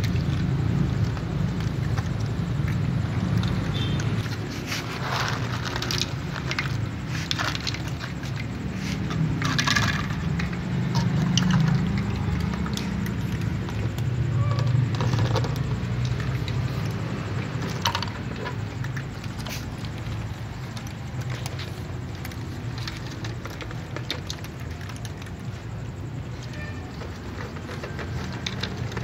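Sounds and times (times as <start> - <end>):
kibble rattling in plastic container: 0.0 - 29.0
kibble clattering into glass bowls: 4.9 - 29.0.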